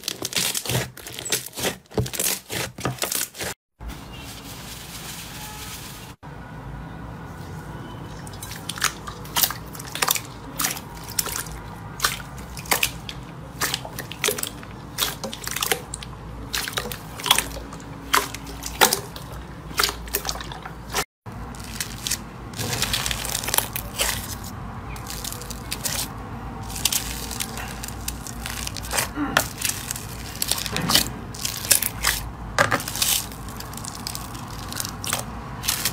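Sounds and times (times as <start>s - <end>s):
wet slime squelches: 0.0s - 4.2s, 7.4s - 35.9s.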